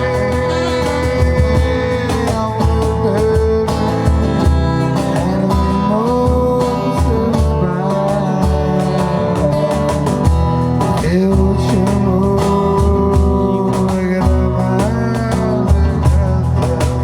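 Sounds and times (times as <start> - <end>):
bass line: 0.0 - 17.0
steady drum beat: 0.0 - 17.0.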